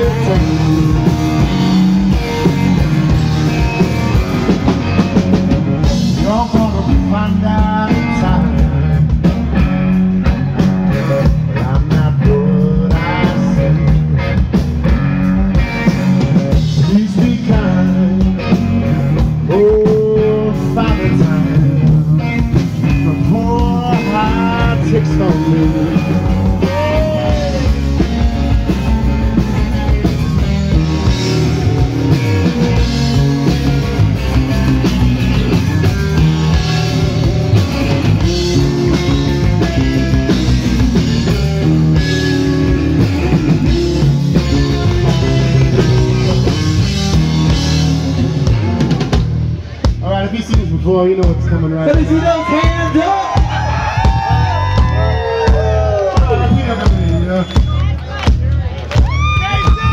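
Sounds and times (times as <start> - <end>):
electric guitar lead line: 0.0 - 58.2
bass guitar: 0.0 - 59.9
drum kit: 0.0 - 59.9.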